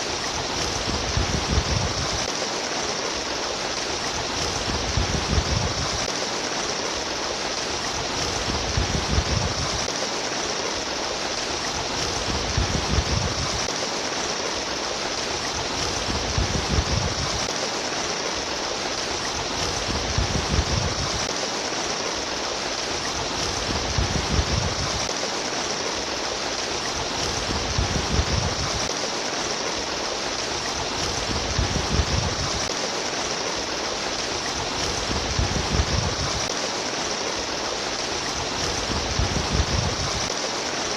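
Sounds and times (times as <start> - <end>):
babbling stream water: 0.0 - 40.9.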